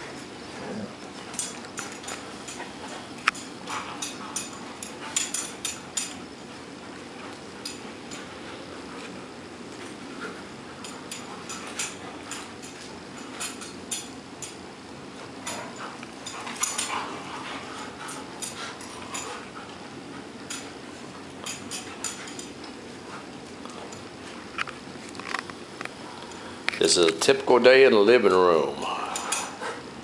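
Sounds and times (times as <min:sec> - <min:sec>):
collar tags jingling: 0:00.0 - 0:27.4, 0:28.4 - 0:29.8
dogs scuffling in play: 0:00.0 - 0:30.0.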